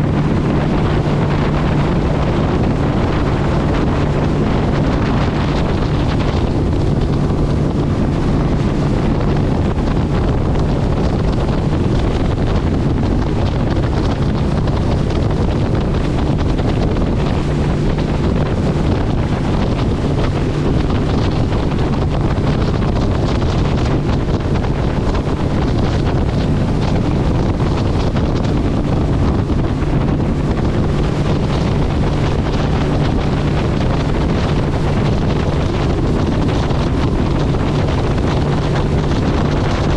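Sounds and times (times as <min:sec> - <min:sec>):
steady low drone: 0:00.0 - 0:39.9
wind buffeting microphone: 0:00.0 - 0:39.9.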